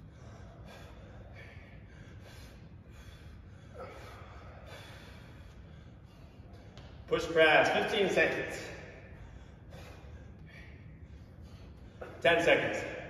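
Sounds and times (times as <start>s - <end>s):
person breathing with exertion: 0.0s - 7.0s, 8.6s - 12.2s.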